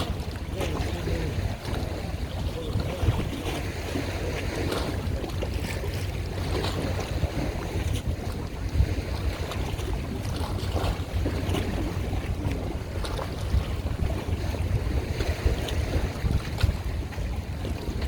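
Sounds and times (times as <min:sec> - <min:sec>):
water splashing against boat: 0:00.0 - 0:18.0
wind buffeting microphone: 0:00.0 - 0:18.0.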